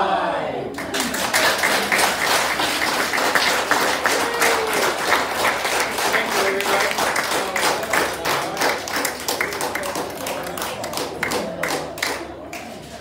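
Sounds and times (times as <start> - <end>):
audience applauding: 0.8 - 12.8.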